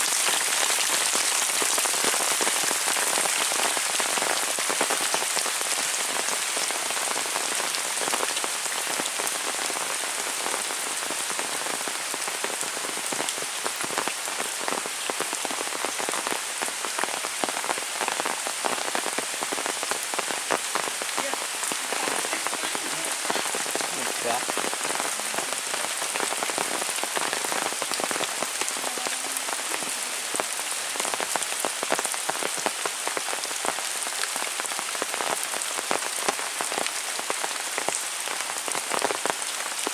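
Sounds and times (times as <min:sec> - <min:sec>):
heavy rain with close drops: 0:00.0 - 0:39.9.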